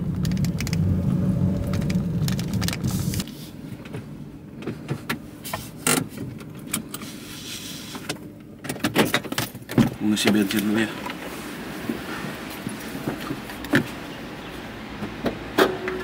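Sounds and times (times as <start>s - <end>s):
car running and rolling rumble: 0.0s - 16.0s.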